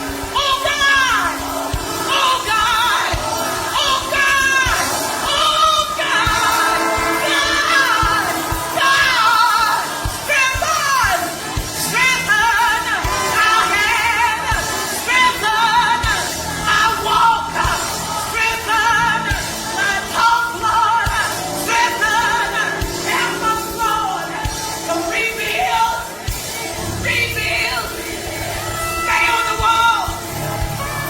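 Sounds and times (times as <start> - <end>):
gospel singing with vibrato: 0.0 - 31.0
instrumental accompaniment: 0.0 - 31.0.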